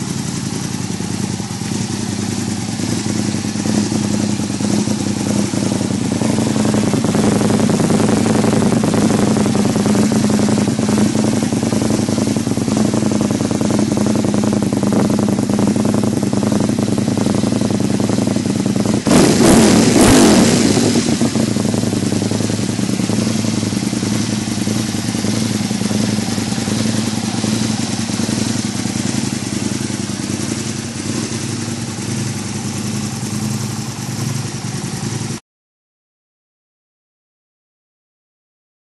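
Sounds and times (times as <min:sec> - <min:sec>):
motorcycle engine idling: 0:00.0 - 0:35.4
motorcycle engine rev: 0:00.0 - 0:35.4.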